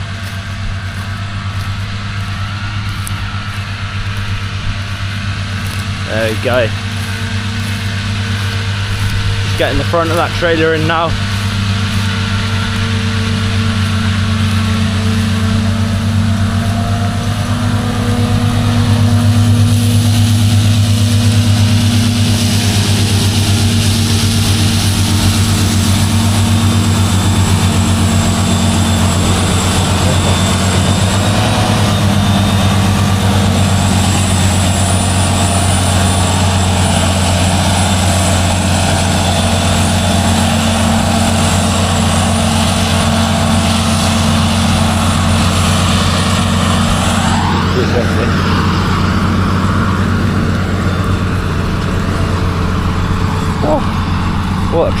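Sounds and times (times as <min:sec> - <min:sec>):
heavy engine drone: 0:00.0 - 0:55.0
thin high whine: 0:00.0 - 0:55.0.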